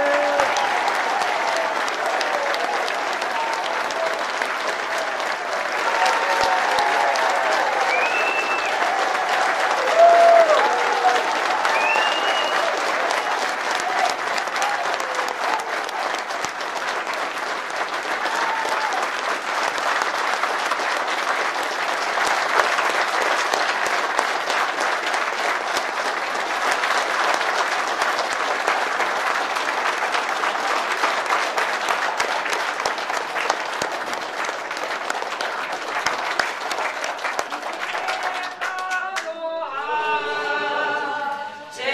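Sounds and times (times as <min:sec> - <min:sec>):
large crowd applauding: 0:00.0 - 0:41.1.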